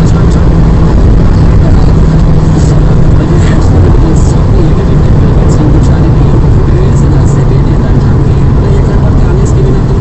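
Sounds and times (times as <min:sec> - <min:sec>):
car engine drone: 0:00.0 - 0:10.0
road noise: 0:00.0 - 0:10.0.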